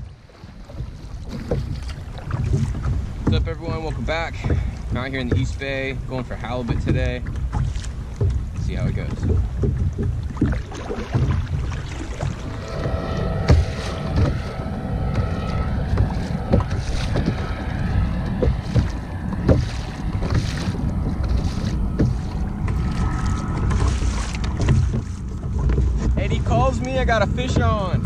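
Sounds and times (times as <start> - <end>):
water splashing against kayak hull: 0.0 - 28.0
wind buffeting microphone: 0.0 - 28.0
sharp knocks: 1.3 - 23.0, 23.6 - 26.6.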